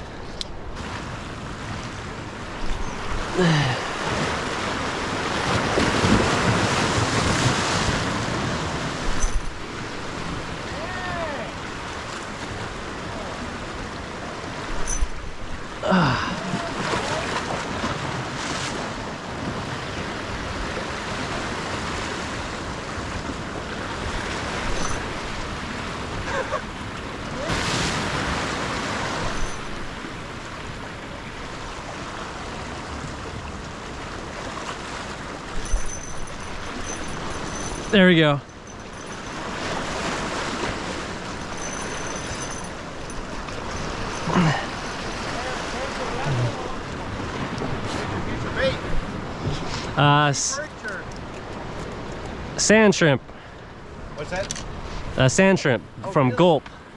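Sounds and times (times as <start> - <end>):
ocean surf breaking: 0.0 - 56.9.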